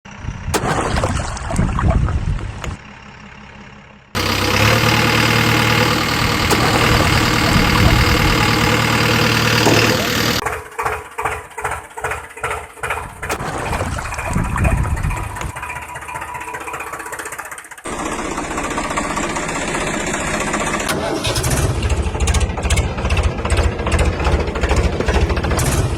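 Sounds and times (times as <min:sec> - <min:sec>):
heavy machinery diesel engines: 0:00.1 - 0:25.9
rhythmic engine pulsing: 0:04.2 - 0:25.9.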